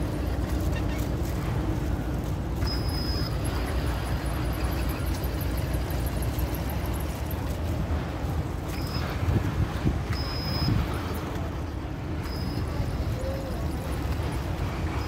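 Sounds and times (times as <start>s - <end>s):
low outdoor rumble with hiss: 0.0s - 15.0s.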